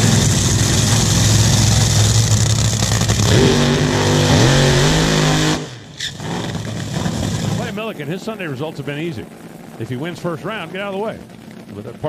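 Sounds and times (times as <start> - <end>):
dragster engine roaring: 0.0 - 12.0.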